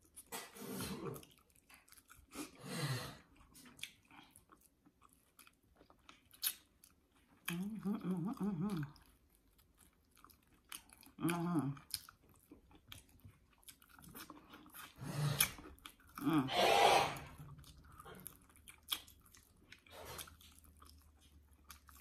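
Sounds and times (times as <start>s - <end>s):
chewing crispy fried chicken: 0.0s - 22.0s.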